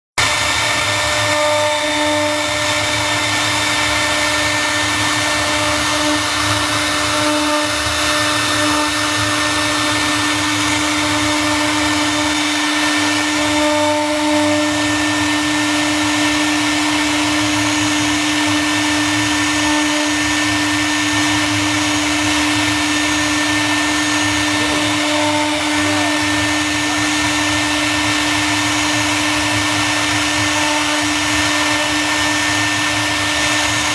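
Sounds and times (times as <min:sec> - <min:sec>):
router spindle whining: 0:00.2 - 0:33.9.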